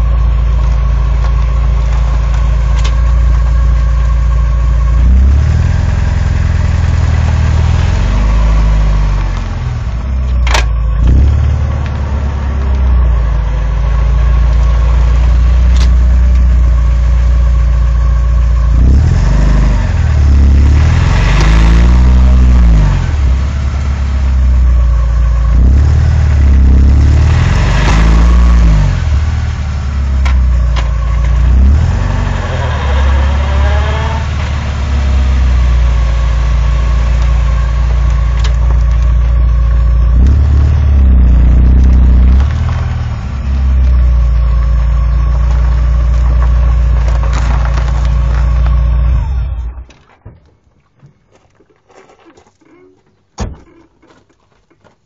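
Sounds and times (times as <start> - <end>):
car engine blipped: 0.0 - 51.0.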